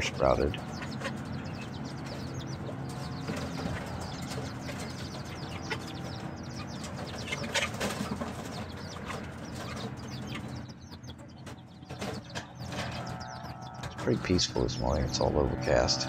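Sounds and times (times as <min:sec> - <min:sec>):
chickens chirping and clucking: 0:00.0 - 0:16.0.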